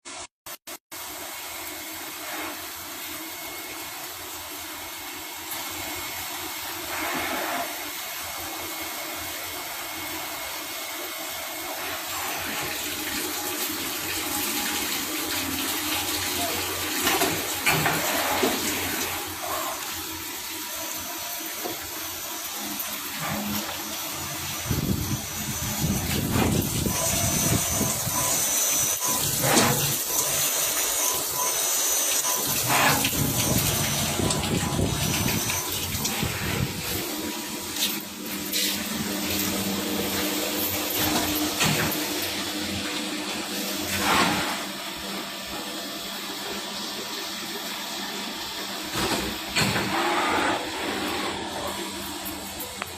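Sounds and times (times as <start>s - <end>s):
machine running with rushing noise: 1.0s - 52.9s.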